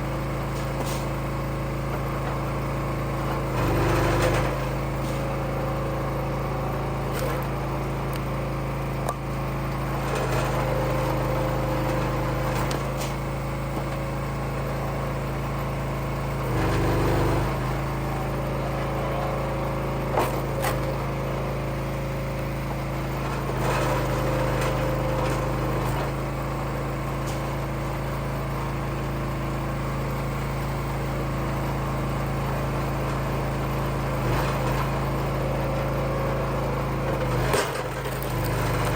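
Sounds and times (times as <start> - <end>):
log splitter engine running: 0.0 - 38.9.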